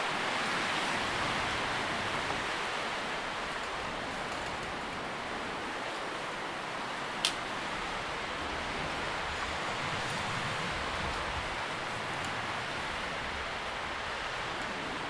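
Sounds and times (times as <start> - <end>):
wind rustling tree leaves: 0.0 - 15.0.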